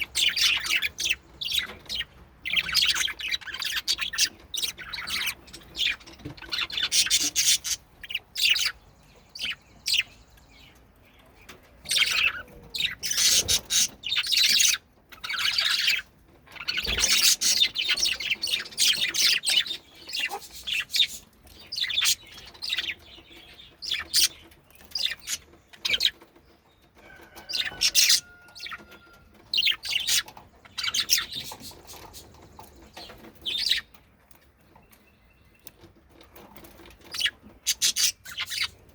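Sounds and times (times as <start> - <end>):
budgies chirping: 0.0 - 38.9.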